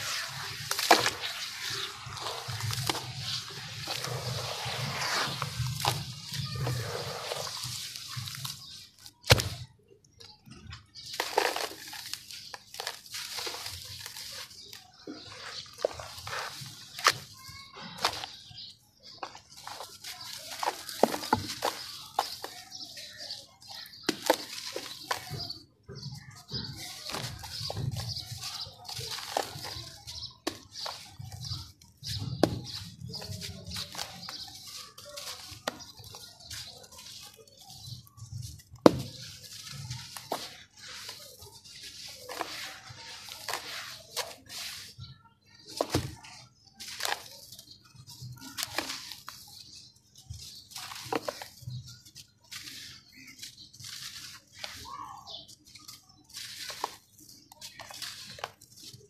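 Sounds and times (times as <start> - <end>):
wet sand squelching and splashing: 0.0 - 9.7, 10.7 - 25.6, 26.4 - 59.0
gritty crunching of crumbling lumps: 0.0 - 59.0.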